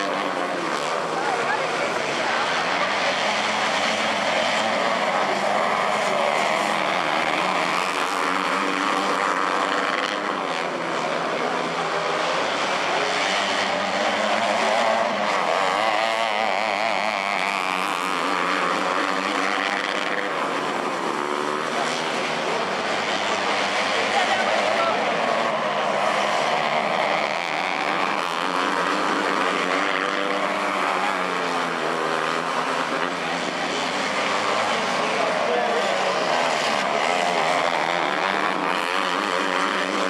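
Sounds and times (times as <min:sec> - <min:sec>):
small race car engines buzzing: 0:00.0 - 0:40.0.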